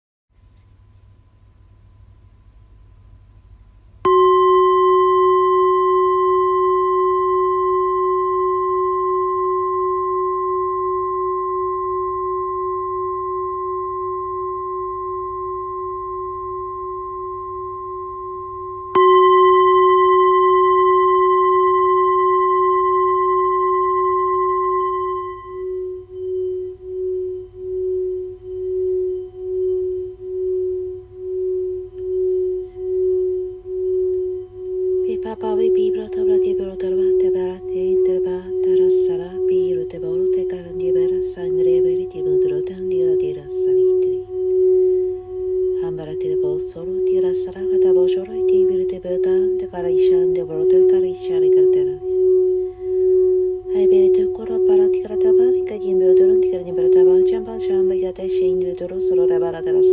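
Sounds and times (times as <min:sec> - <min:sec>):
singing bowl ringing: 0:04.0 - 0:59.9.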